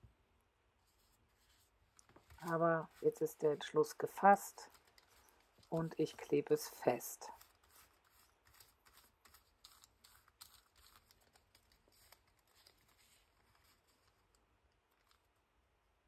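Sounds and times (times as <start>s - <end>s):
paintbrush tapping and scratching: 0.8s - 15.3s
paper being handled: 0.8s - 15.4s.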